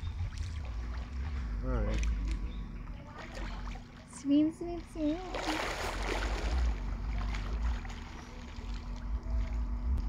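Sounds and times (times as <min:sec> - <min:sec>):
low steady rumble: 0:00.0 - 0:10.0
pool water splashing: 0:00.0 - 0:10.0.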